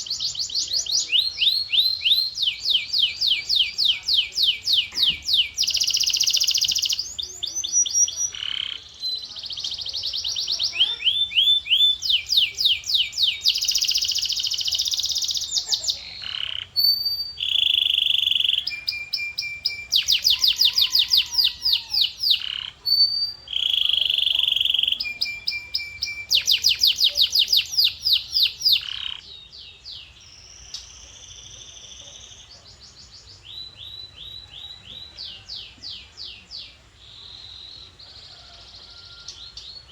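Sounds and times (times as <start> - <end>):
canary singing rapid trills: 0.0 - 35.7.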